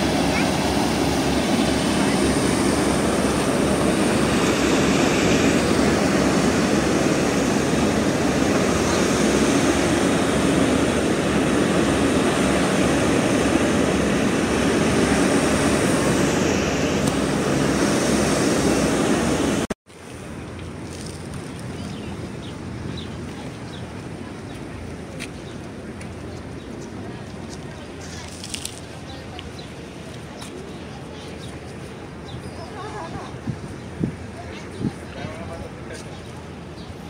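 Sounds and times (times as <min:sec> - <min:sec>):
boat engine rumble: 0:00.0 - 0:37.0
rushing wind and water: 0:00.0 - 0:37.0.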